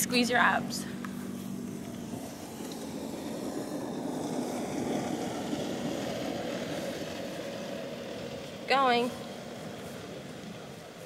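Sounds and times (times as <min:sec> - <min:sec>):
distant engine drone: 0:00.0 - 0:11.0.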